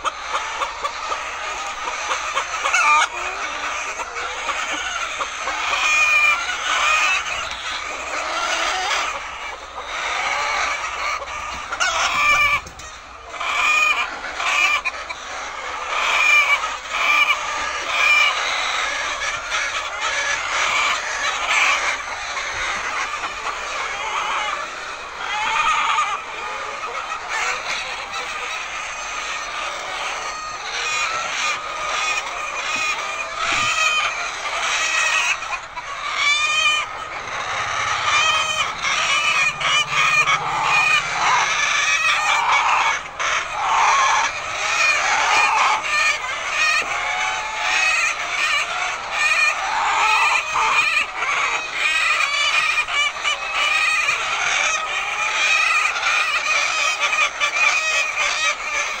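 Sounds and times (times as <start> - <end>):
hens clucking and squawking: 0.0 - 59.0.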